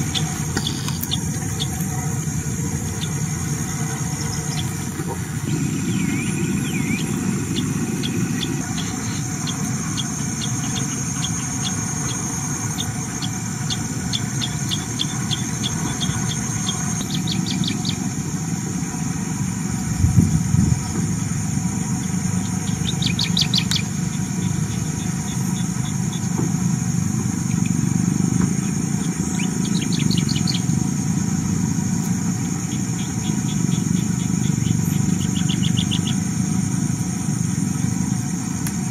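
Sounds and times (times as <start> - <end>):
rapid bird chirps: 0.0 - 19.6, 20.8 - 38.9
constant low rumble: 0.0 - 38.9
high insect drone: 0.0 - 38.9.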